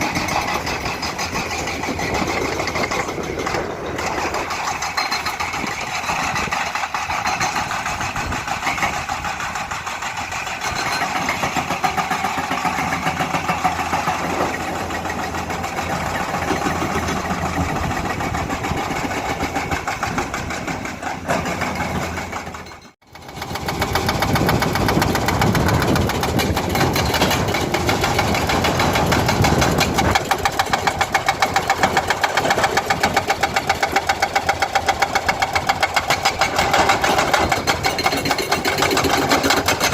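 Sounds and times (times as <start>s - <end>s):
diesel engine running: 0.0s - 39.9s
hydraulic breaker hammering rock: 0.0s - 39.9s.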